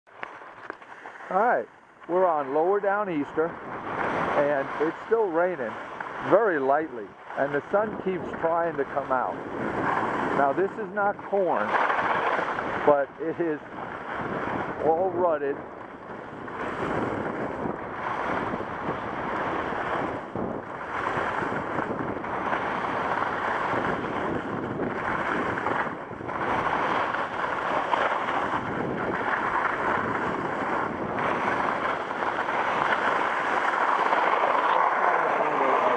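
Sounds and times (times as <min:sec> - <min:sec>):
skis scraping over snow: 0:00.1 - 0:35.9
wind noise on microphone: 0:00.5 - 0:35.9.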